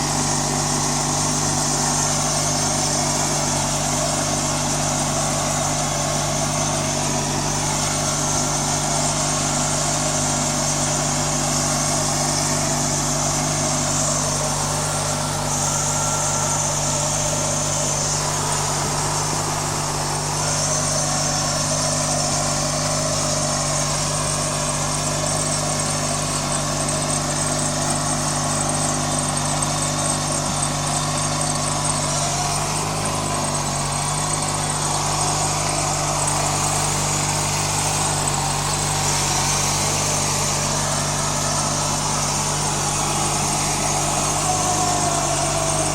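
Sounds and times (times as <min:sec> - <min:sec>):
riding lawn mower engine running: 0:00.0 - 0:45.9.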